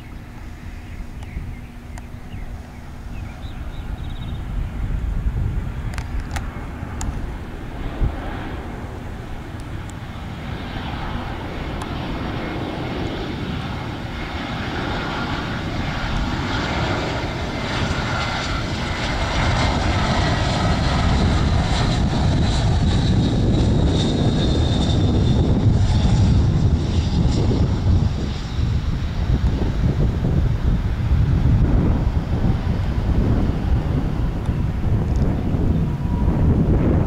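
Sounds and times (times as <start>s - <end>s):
jet engines rushing and whining: 0.0s - 37.0s.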